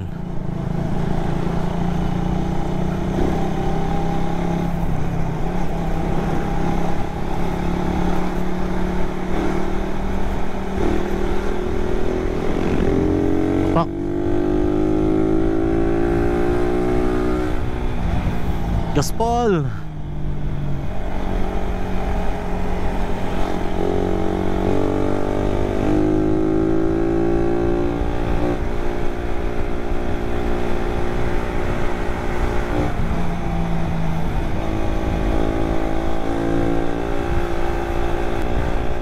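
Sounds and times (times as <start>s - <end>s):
motorcycle engine revving: 0.0s - 19.0s, 20.3s - 39.0s.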